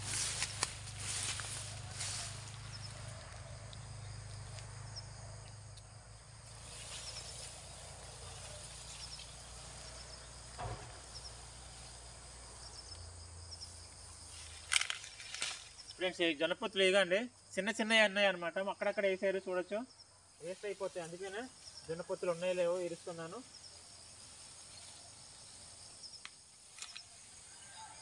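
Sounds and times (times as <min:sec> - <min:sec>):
rustling of plants: 0:00.0 - 0:16.4, 0:20.4 - 0:28.0
insects chirping: 0:00.0 - 0:28.0.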